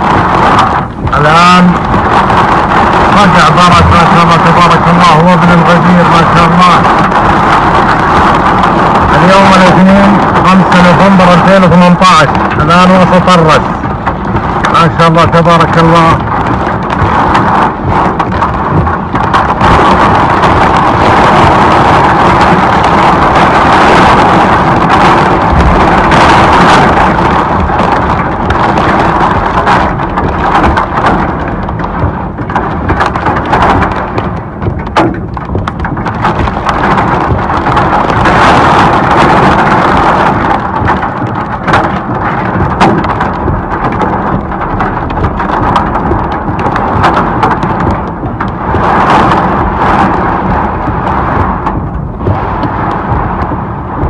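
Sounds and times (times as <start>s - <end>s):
hailstones striking: 0.0s - 54.0s
heavy rain: 0.0s - 54.0s.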